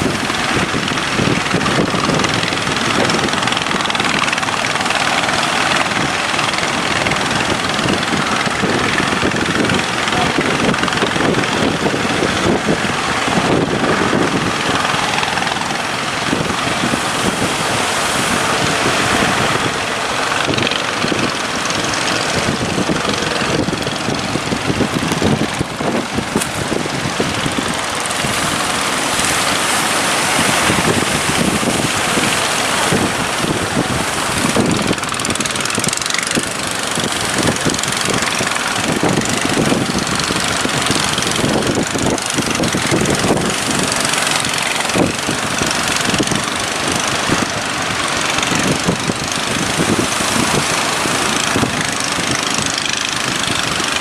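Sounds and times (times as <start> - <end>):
boat engines running: 0.0 - 54.0
surf rushing: 0.0 - 54.0
wind: 0.0 - 54.0.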